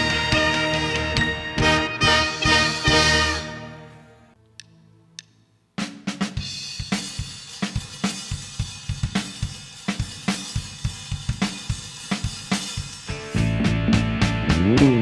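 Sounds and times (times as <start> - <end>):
drum kit beat: 0.0 - 3.5, 5.8 - 15.0.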